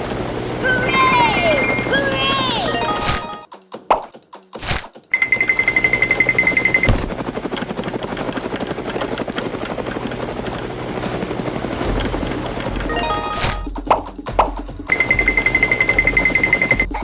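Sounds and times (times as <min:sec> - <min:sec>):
helicopter rotor chopping: 0:00.0 - 0:03.0, 0:05.1 - 0:17.0.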